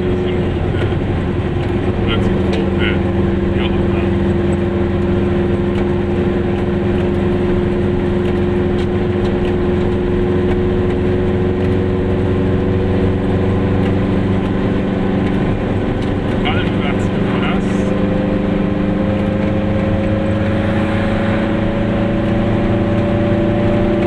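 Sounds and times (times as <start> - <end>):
two-stroke engine running: 0.0 - 24.0.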